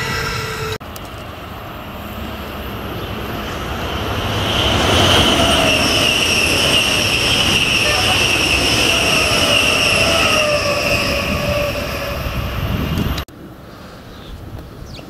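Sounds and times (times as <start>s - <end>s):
departing train whine: 0.0s - 13.3s
train passing at speed: 0.0s - 14.2s.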